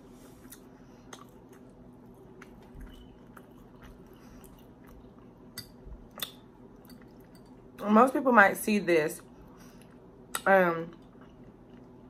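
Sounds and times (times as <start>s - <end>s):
chewing food: 0.2s - 7.7s, 9.4s - 12.0s.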